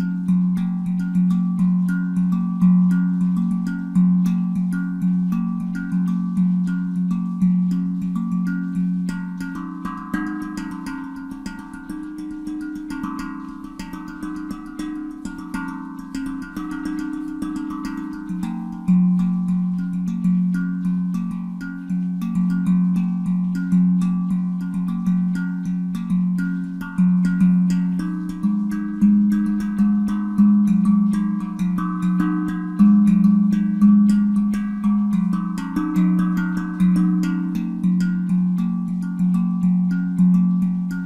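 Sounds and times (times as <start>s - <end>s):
handpan played by hand: 0.0s - 41.0s.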